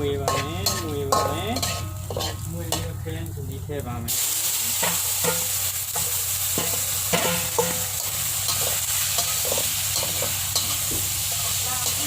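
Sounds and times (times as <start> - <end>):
spatula scraping pan: 0.0 - 2.8, 4.8 - 12.0
spices sizzling in oil: 0.0 - 12.0.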